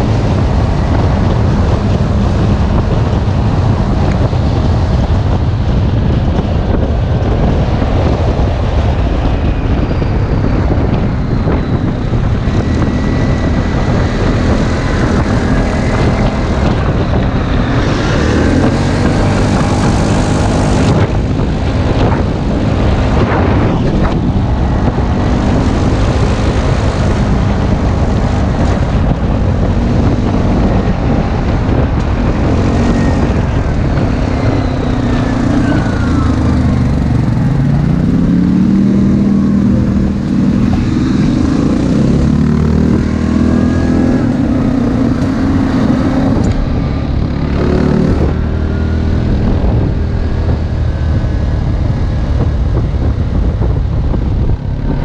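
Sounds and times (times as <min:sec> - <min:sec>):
atv engines revving: 0:00.0 - 0:55.0.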